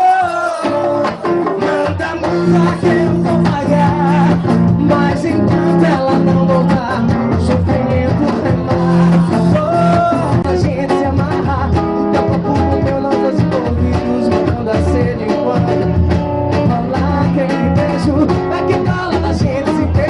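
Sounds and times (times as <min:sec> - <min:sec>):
live band with guitar: 0:00.0 - 0:20.0
person singing: 0:00.0 - 0:20.0.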